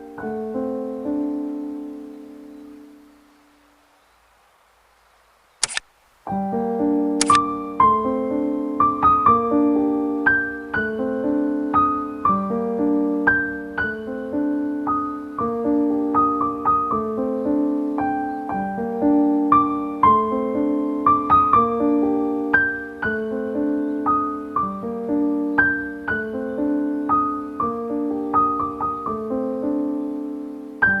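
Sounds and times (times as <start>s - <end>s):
solo piano melody: 0.0s - 3.6s, 6.2s - 31.0s.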